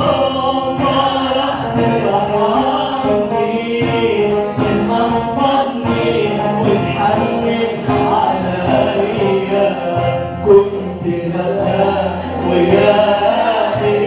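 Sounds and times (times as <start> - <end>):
hymn singing: 0.0 - 14.0
instrumental accompaniment: 0.0 - 14.0.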